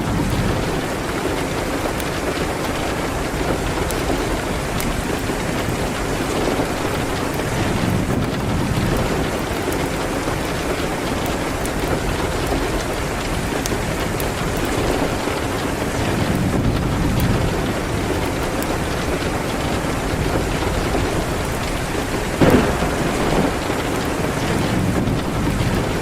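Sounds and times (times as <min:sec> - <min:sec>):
rain hitting a window: 0:00.0 - 0:26.0.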